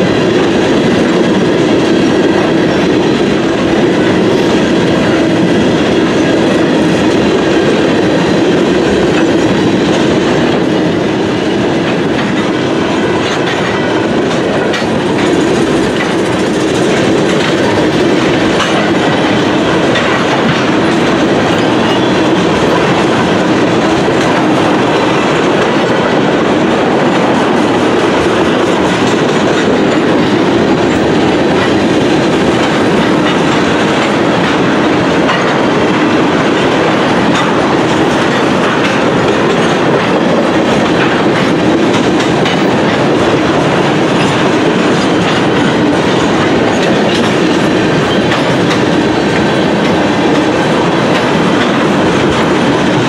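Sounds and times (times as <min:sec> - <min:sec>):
train wheels rumbling on rails: 0:00.0 - 0:53.0
wheels clacking over rail joints: 0:00.0 - 0:53.0.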